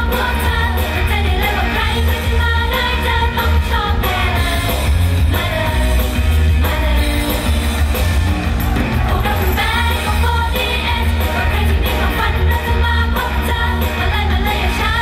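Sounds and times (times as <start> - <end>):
girl group singing: 0.0 - 7.5, 8.7 - 15.0
pop song over sound system: 0.0 - 15.0.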